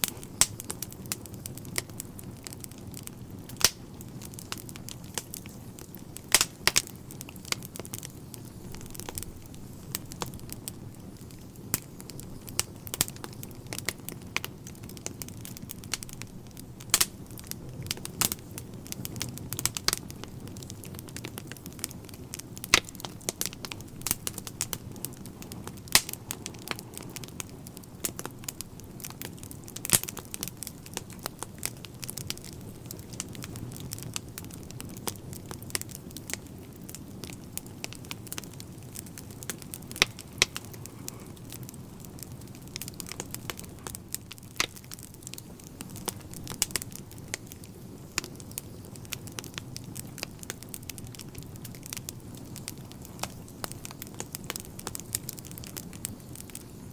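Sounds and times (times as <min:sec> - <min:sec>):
fire rumbling: 0:00.0 - 0:56.9
logs crackling and popping: 0:00.0 - 0:56.9.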